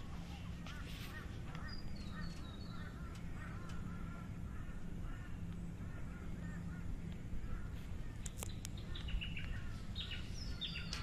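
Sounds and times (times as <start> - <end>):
steady low hum: 0.0 - 11.0
birds honking: 0.2 - 11.0.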